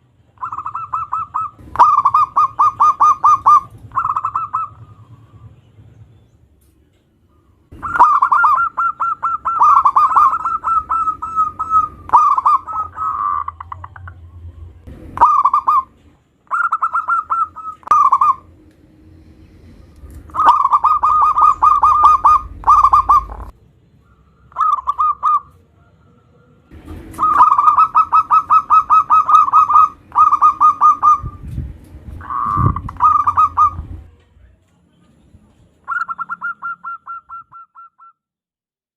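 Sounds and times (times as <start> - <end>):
dove cooing: 0.4 - 5.6, 7.4 - 18.6, 20.1 - 23.6, 24.2 - 31.4, 32.2 - 34.1, 35.8 - 38.1.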